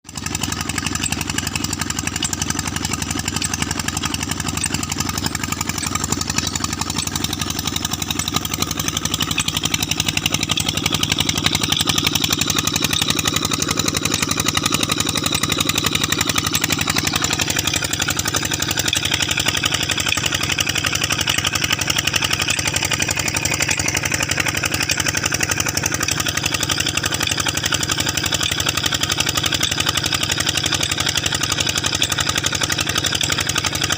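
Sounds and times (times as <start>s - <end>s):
stationary diesel engine running: 0.1s - 33.9s.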